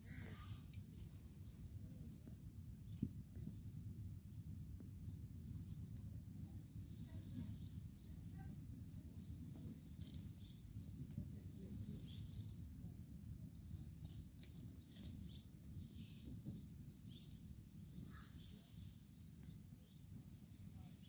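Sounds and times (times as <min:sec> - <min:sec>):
faint chirp: 0:00.0 - 0:21.0
faint low rumble: 0:00.0 - 0:21.0.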